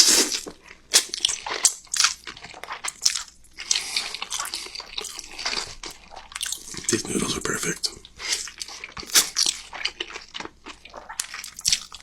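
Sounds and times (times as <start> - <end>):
wet chewing and biting: 0.0 - 7.0, 8.2 - 12.0.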